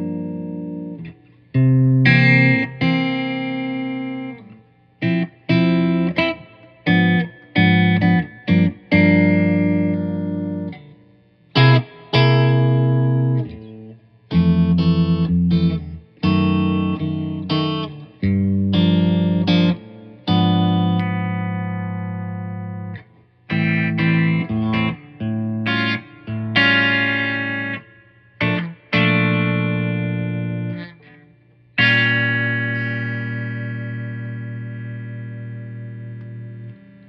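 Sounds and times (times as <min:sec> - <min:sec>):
electric guitar strumming chords: 0:00.0 - 0:37.0.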